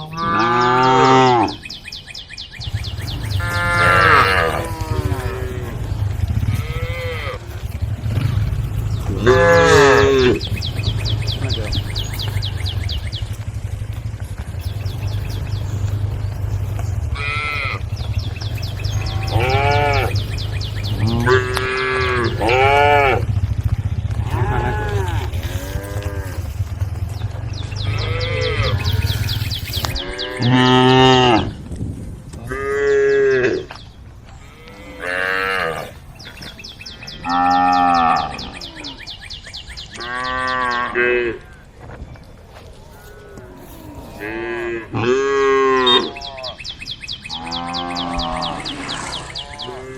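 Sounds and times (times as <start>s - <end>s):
cattle mooing: 0.0s - 1.6s, 2.9s - 31.6s, 32.4s - 33.8s, 34.4s - 36.0s, 36.9s - 39.1s, 40.0s - 41.6s, 42.9s - 46.6s, 47.3s - 49.9s.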